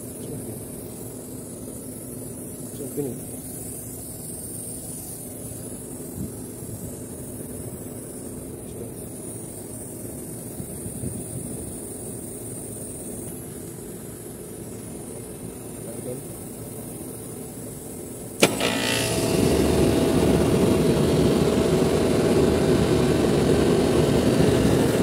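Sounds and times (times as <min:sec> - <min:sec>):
air conditioning unit drone: 0:00.0 - 0:25.0.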